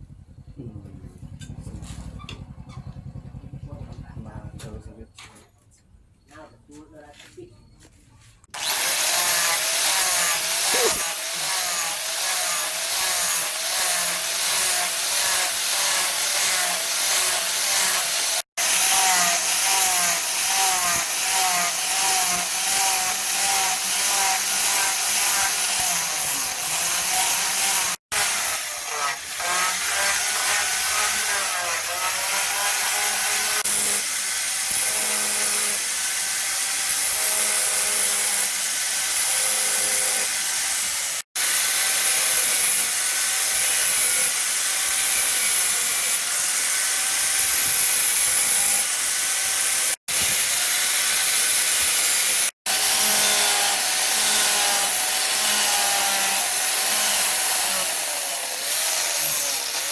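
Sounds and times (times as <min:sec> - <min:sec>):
tool scraping wood rhythmically: 0:08.4 - 0:59.9.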